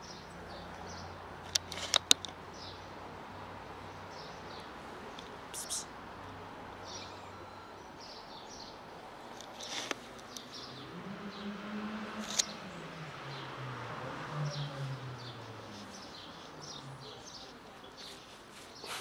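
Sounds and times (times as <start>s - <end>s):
small birds chirping: 0.0s - 6.0s, 6.7s - 19.0s.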